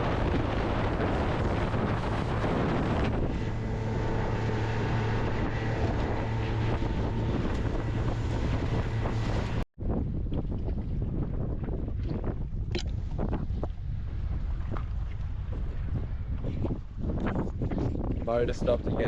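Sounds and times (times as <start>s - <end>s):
outboard motor running: 0.0s - 19.0s
wind buffeting microphone: 0.0s - 19.0s.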